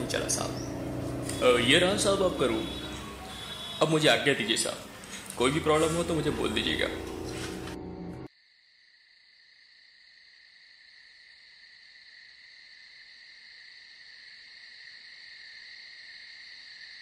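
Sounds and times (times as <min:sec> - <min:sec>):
crickets chirring: 0:00.0 - 0:07.2, 0:08.3 - 0:17.0.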